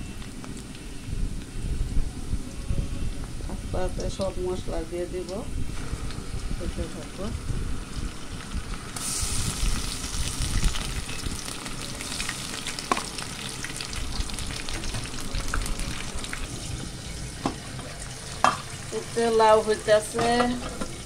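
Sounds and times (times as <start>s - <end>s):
onions and spices sizzling in oil: 0.0s - 21.0s.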